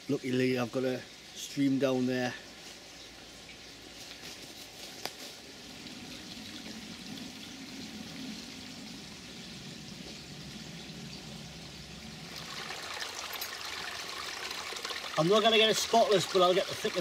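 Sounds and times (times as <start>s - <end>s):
stream trickling: 0.0s - 17.0s.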